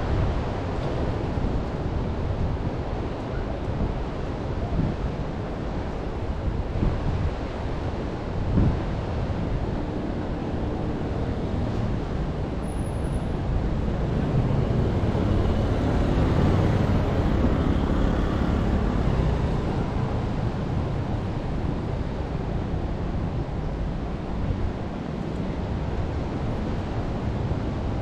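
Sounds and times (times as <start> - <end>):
wind: 0.0 - 28.0.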